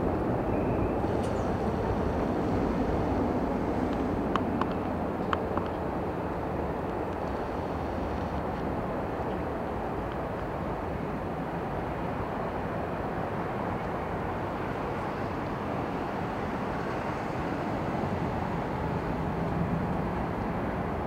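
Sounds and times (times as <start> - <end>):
distant jet engines rumbling: 0.0 - 21.0.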